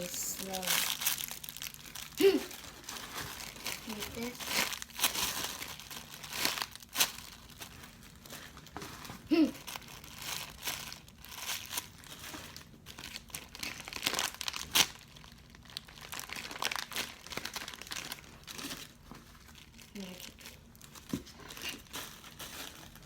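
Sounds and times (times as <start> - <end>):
plastic wrapping crinkling: 0.0 - 23.0.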